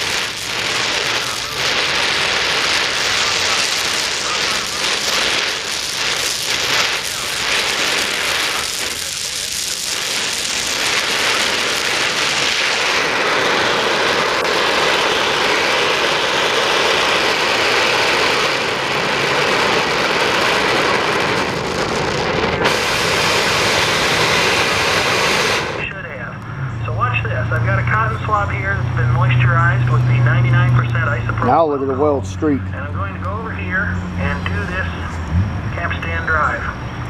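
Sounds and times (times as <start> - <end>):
welding torch flame hissing: 0.0 - 26.0, 27.3 - 36.6.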